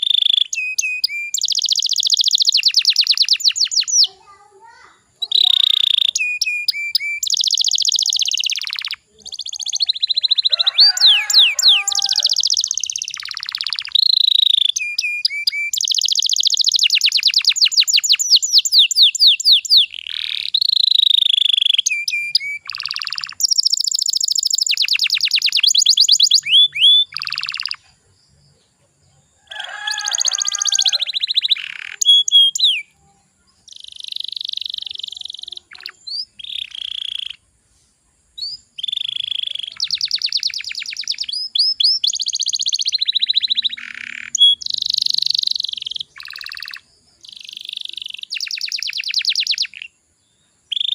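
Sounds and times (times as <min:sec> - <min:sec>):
canary singing trills: 0:00.0 - 0:37.6, 0:38.3 - 0:50.9.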